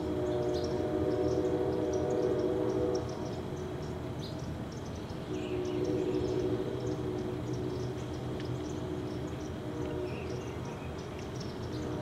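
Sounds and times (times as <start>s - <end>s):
steady droning hum: 0.0s - 12.0s.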